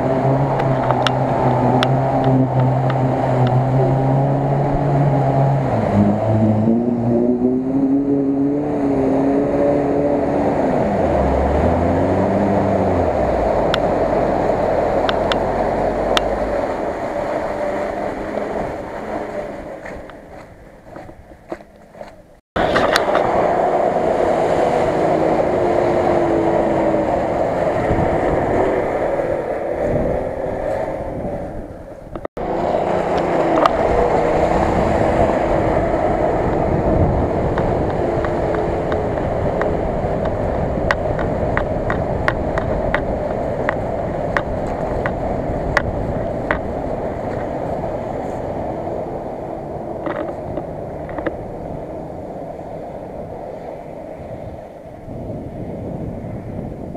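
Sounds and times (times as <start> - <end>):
off-road vehicle engine revving: 0.0 - 53.4
water splashing and churning: 0.0 - 56.5.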